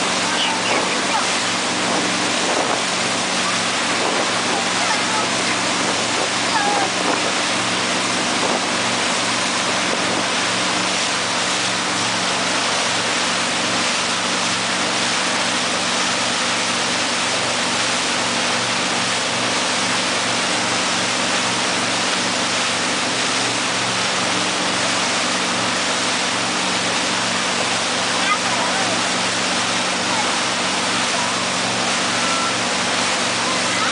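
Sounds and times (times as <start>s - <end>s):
rushing wake water: 0.0s - 33.9s
speedboat engine running: 0.0s - 33.9s.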